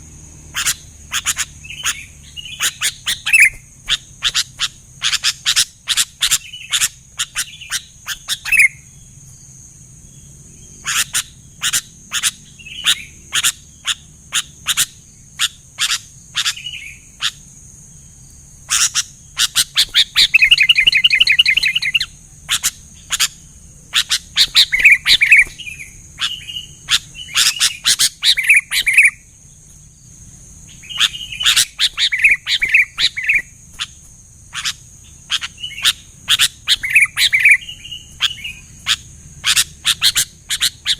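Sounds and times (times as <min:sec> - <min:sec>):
bulbuls chirping: 0:00.0 - 0:40.9
bird rattling trill: 0:00.4 - 0:10.0, 0:10.6 - 0:40.9.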